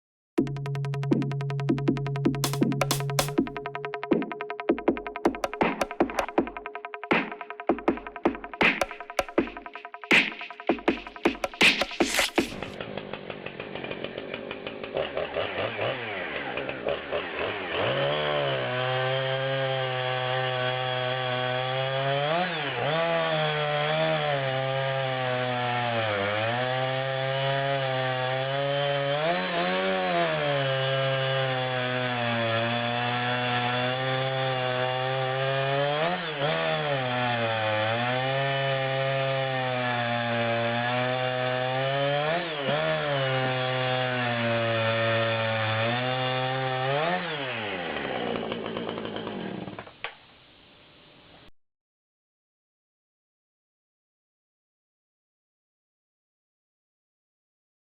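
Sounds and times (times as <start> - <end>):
chainsaw cutting wood: 0.4 - 50.2.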